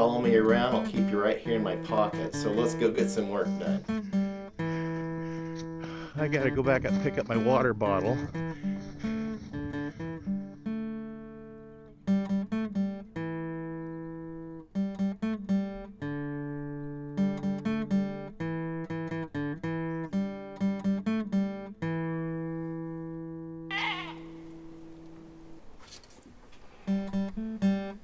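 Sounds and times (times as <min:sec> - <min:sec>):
fingerstyle acoustic guitar: 0:00.0 - 0:28.0.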